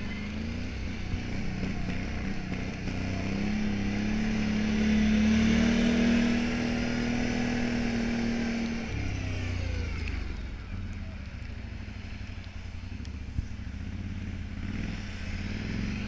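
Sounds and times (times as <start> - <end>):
atv engine under throttle: 0.0 - 16.0.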